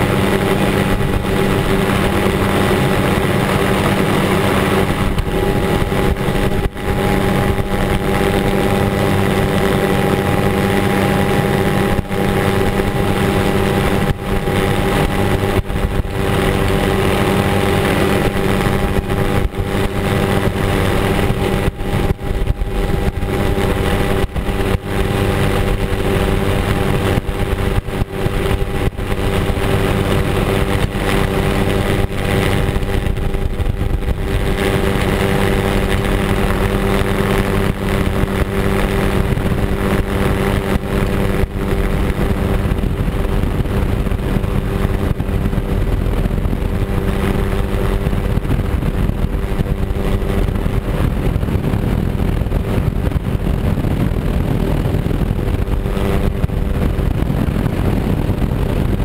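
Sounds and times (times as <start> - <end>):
helicopter engine and rotor noise: 0.0 - 59.0.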